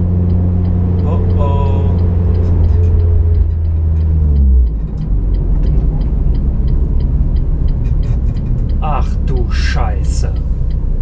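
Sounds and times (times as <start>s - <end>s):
car engine: 0.0s - 11.0s
fast regular ticking: 0.0s - 11.0s.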